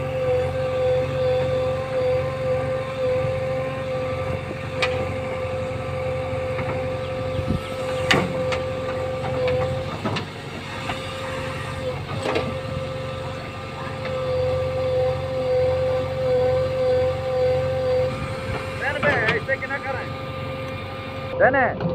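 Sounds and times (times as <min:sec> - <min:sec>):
high hydraulic whine: 0:00.0 - 0:21.6
backhoe loader engine droning: 0:00.0 - 0:21.9.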